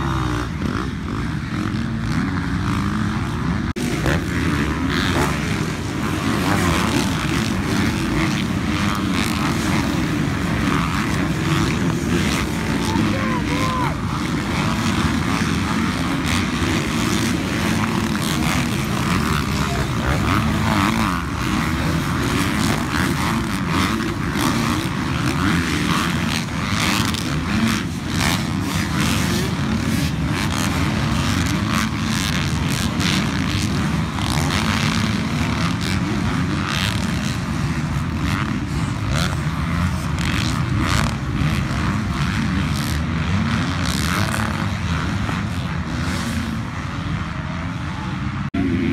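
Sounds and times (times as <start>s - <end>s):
motocross bike engines revving: 0.0s - 48.9s.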